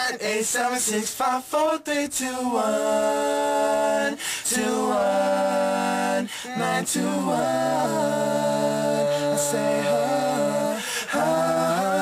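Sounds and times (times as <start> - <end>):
men singing a cappella: 0.0 - 12.0.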